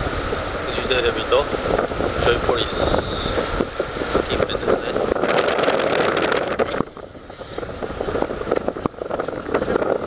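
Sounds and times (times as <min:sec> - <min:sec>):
boat motor and water rushing: 0:00.0 - 0:10.0
wind buffeting the microphone: 0:00.0 - 0:10.0.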